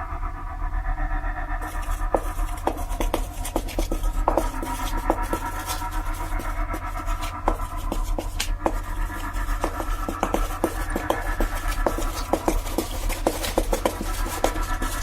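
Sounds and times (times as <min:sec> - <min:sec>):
steady low hum: 0:00.0 - 0:15.0
scratching and scraping: 0:01.6 - 0:15.0.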